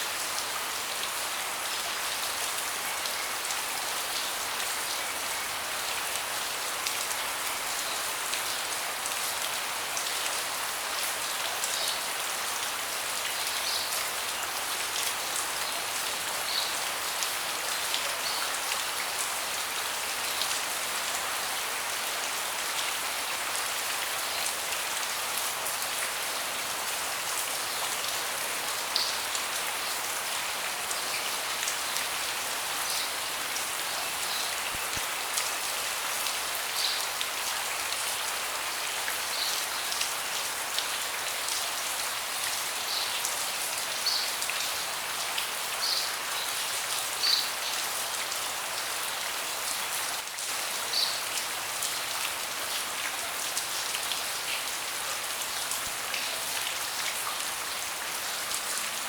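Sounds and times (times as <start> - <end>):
rain falling on a deck: 0.0 - 59.0.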